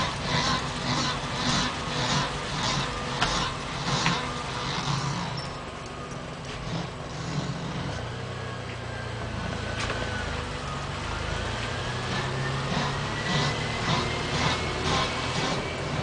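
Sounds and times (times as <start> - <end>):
low engine hum: 0.0 - 16.0
wheel rubbing noise: 0.0 - 16.0.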